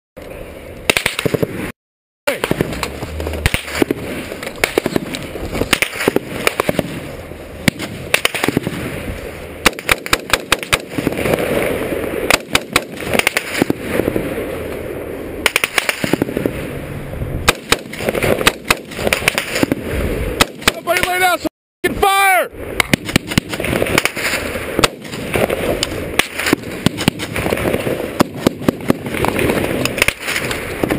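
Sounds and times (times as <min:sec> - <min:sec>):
rifle gunshots: 0:00.9 - 0:01.7, 0:02.3 - 0:09.0, 0:09.6 - 0:14.2, 0:15.4 - 0:16.6, 0:17.4 - 0:21.1, 0:22.8 - 0:30.9.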